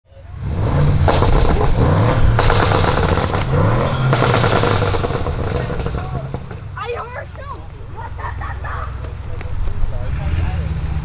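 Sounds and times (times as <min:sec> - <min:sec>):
car engine revving: 0:00.1 - 0:11.0
exhaust pops and crackles: 0:00.2 - 0:11.0.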